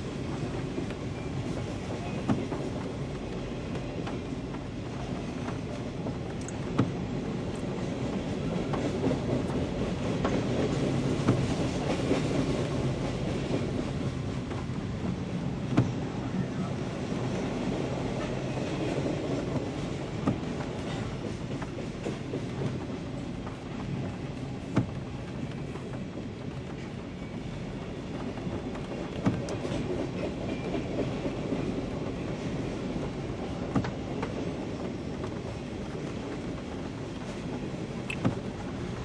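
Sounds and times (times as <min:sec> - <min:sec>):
freight train cars rolling: 0:00.0 - 0:39.0
wheels clicking over rail joints: 0:00.1 - 0:16.2, 0:17.2 - 0:39.0.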